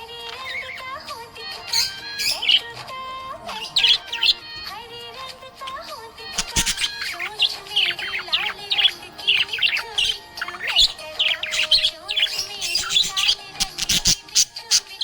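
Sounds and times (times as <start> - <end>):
budgerigar chirping: 0.0 - 2.7, 3.3 - 4.7, 5.7 - 15.0
quiet background music: 0.0 - 15.0.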